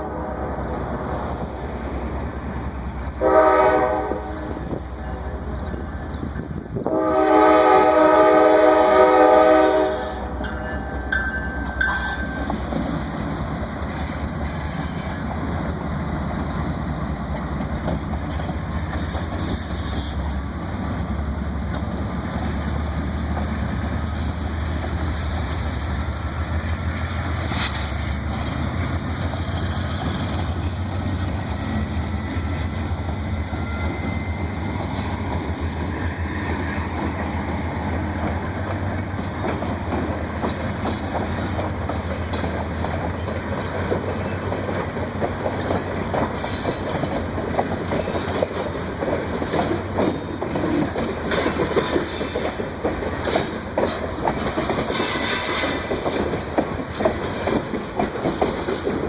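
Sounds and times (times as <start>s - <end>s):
freight train rumbling past: 0.0s - 59.0s
wheels clacking over rail joints: 10.0s - 59.0s.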